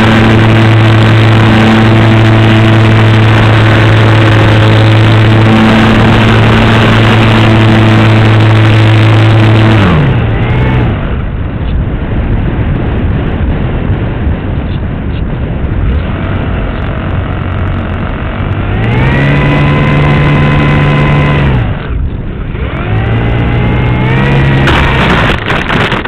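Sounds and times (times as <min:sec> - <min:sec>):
model airplane motor droning: 0:00.0 - 0:11.2, 0:15.9 - 0:26.0
wind rushing: 0:00.0 - 0:26.0.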